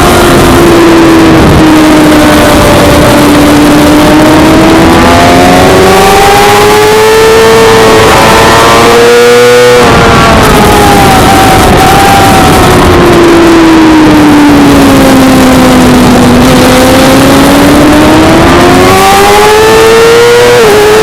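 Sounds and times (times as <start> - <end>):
constant rush of noise: 0.0 - 21.0
motorcycle engine at high revs: 0.0 - 21.0.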